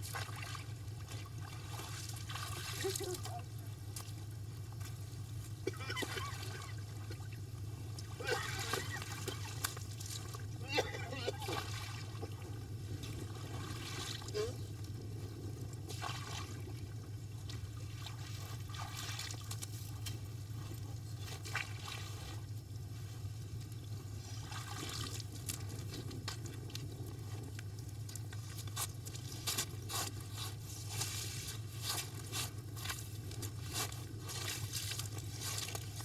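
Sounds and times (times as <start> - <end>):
water and slush scraping: 0.0 - 23.3, 24.1 - 36.0
steady low hum: 0.0 - 36.0.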